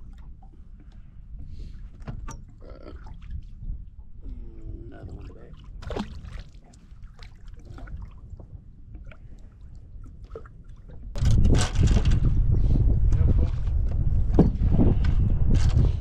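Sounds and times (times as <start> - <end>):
water lapping against boat hull: 0.0 - 15.1
low wind rumble: 0.0 - 16.0.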